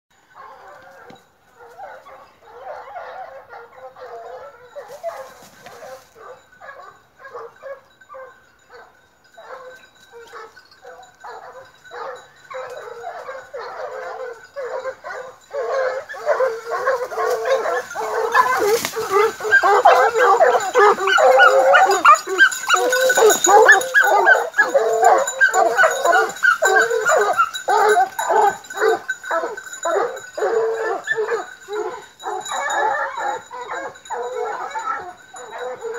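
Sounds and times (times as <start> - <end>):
hounds baying: 0.2 - 35.9.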